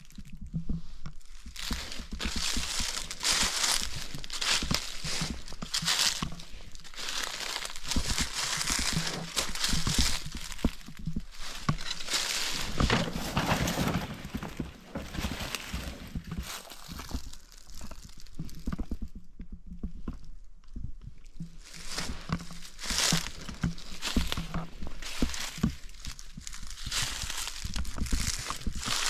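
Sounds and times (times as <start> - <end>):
footsteps crunching through dry leaves: 1.2 - 18.9, 21.6 - 29.0.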